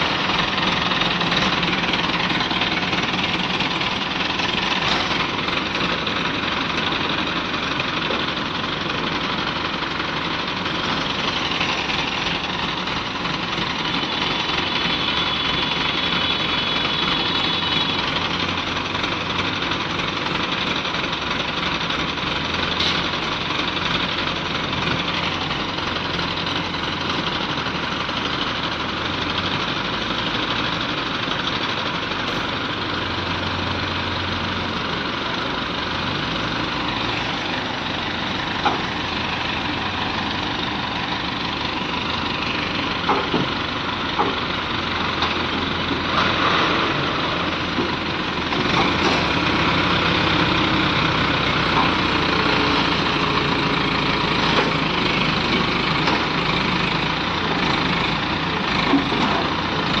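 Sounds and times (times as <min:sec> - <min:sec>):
diesel engine running under load: 0:00.0 - 1:00.0.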